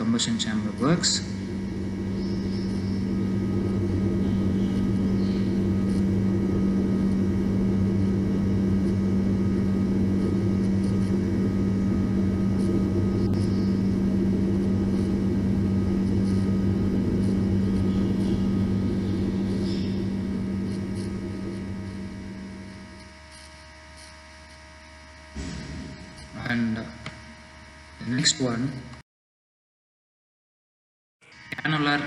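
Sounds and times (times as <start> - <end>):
jet engine drone: 0.0 - 28.5.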